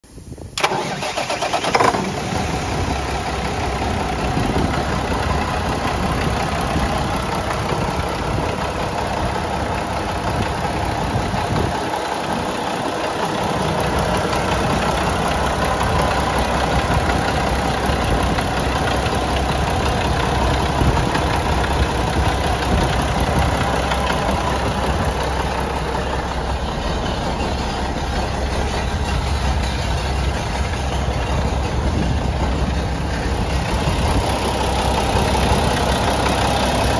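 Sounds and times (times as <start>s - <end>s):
diesel engine idling: 0.4s - 36.9s.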